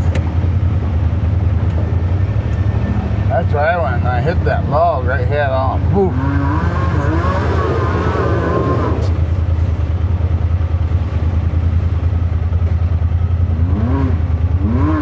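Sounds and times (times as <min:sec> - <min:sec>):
utv engine drone: 0:00.0 - 0:15.0.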